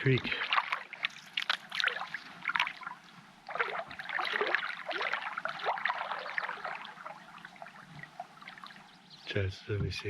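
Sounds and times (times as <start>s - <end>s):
water gurgling and trickling: 0.0s - 9.1s.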